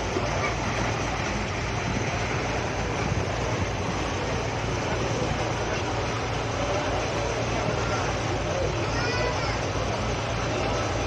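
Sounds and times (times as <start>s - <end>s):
ferry engine droning: 0.0s - 11.0s
rushing water noise: 0.0s - 11.0s.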